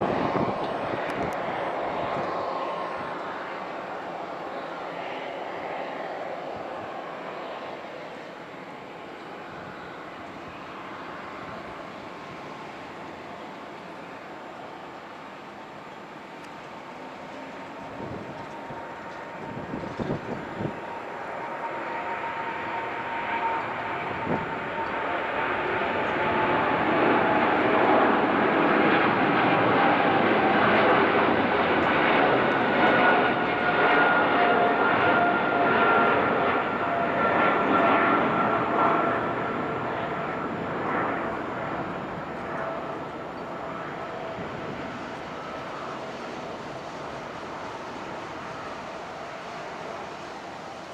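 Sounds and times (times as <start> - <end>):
jet engines roaring on takeoff: 0.0 - 50.9.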